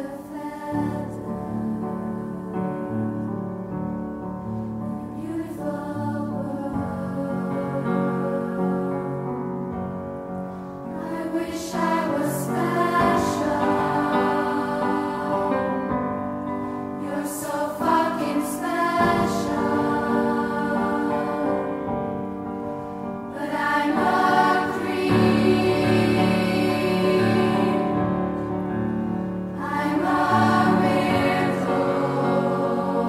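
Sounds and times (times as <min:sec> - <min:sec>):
choir singing sustained chords: 0:00.0 - 0:33.0.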